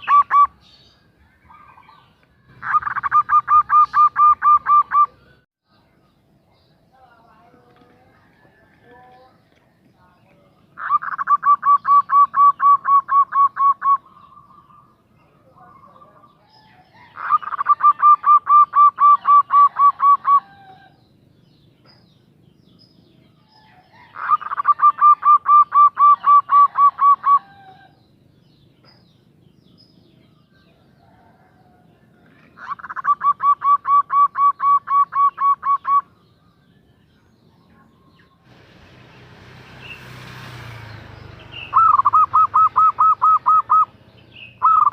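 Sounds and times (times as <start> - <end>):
dove calling: 0.0 - 5.4, 9.6 - 21.2, 22.8 - 28.2, 28.8 - 36.9, 37.6 - 44.9.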